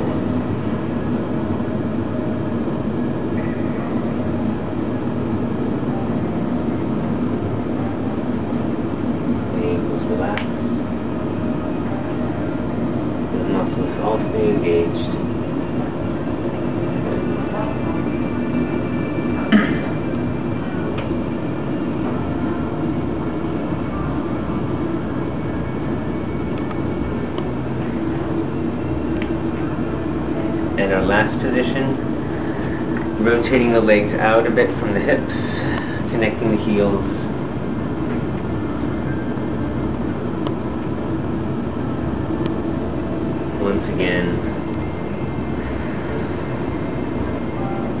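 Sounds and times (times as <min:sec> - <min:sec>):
low room noise rumble: 0:00.0 - 0:48.0.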